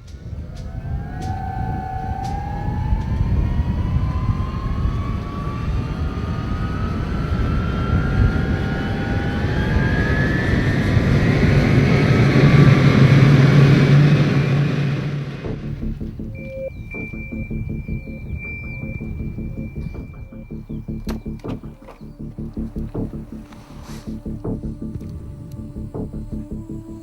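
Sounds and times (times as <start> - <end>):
jet engines winding up: 0.0 - 27.0.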